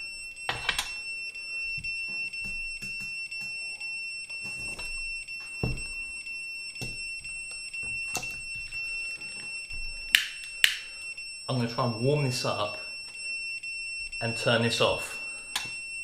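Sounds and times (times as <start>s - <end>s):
continuity tester buzzer tone: 0.0s - 16.0s.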